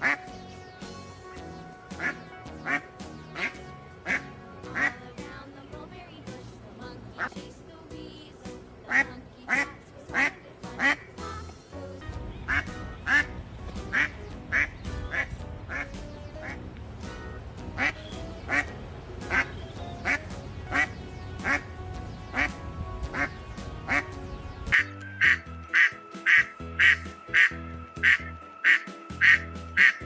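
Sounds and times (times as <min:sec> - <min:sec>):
ducks quacking: 0:00.0 - 0:00.4, 0:01.4 - 0:05.4, 0:08.9 - 0:11.6, 0:12.4 - 0:30.0
background music: 0:00.0 - 0:30.0.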